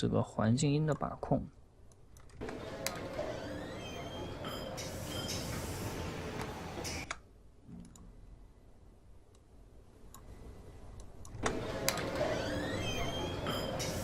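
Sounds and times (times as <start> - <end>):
room ambience: 0.0 - 14.0.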